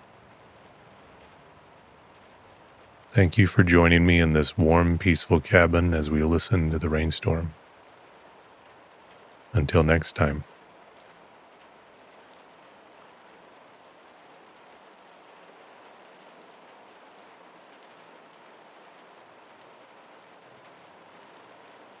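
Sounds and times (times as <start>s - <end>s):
patter of raindrops: 0.0s - 22.0s
steady rainfall: 0.0s - 22.0s.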